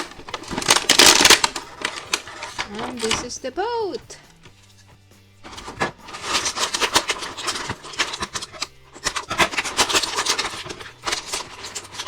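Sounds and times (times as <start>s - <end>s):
plastic packaging crackling and scraping: 0.0s - 12.0s.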